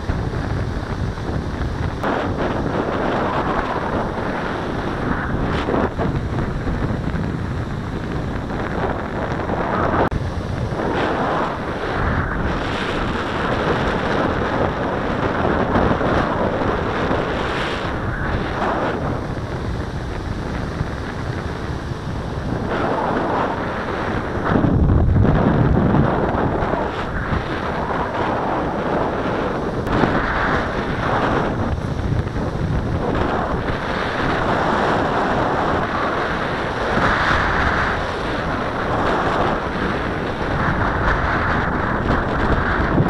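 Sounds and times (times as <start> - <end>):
surf breaking on beach: 0.0 - 43.0
wind buffeting microphone: 0.0 - 43.0.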